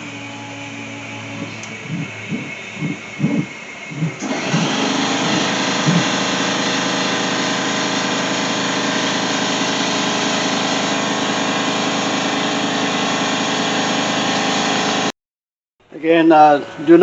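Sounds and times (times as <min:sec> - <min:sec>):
motor-driven machine droning: 0:00.0 - 0:15.1.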